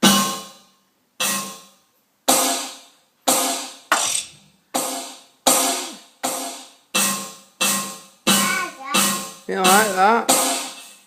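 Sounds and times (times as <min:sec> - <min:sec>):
electronic drum hits: 0:00.0 - 0:00.6, 0:02.3 - 0:11.0.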